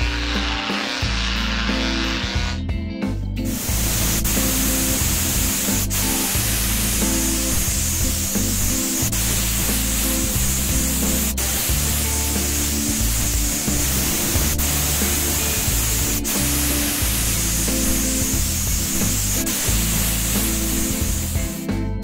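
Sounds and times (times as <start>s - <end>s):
spray paint can hissing: 0.0s - 2.6s, 3.5s - 21.8s
background music with bass: 0.0s - 22.0s.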